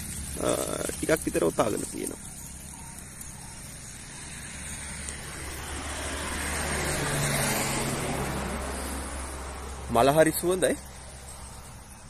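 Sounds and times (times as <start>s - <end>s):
vehicle road noise: 0.0s - 12.0s.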